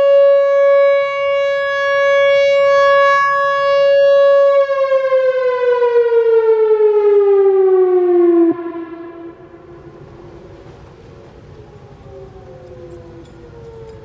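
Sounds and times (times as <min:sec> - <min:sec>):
outdoor warning siren: 0:00.0 - 0:14.0.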